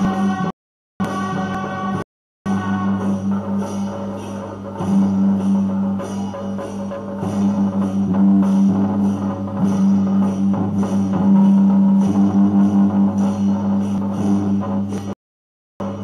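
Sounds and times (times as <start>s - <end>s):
percussion strikes: 0.0s - 15.2s, 15.8s - 16.0s.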